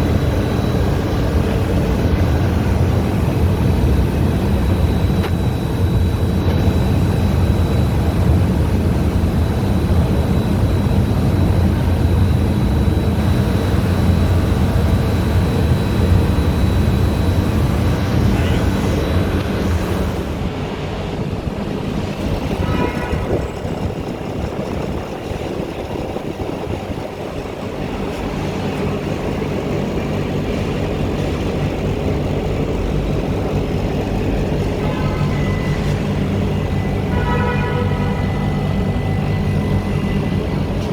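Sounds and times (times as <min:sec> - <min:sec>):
condensing unit humming: 0:00.0 - 0:40.9
outdoor air conditioner hum: 0:00.0 - 0:40.9.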